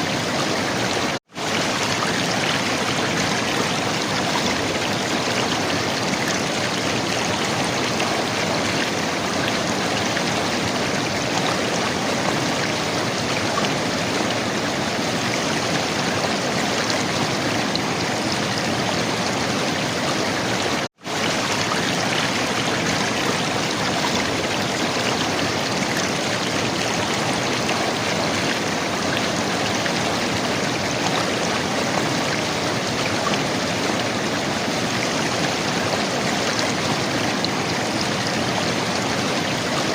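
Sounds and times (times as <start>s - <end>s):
river water gurgling and rushing: 0.0s - 39.9s.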